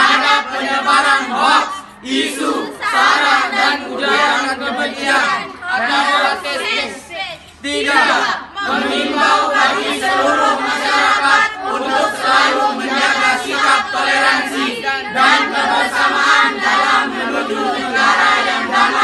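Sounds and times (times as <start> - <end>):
children chanting in unison: 0.0 - 19.0.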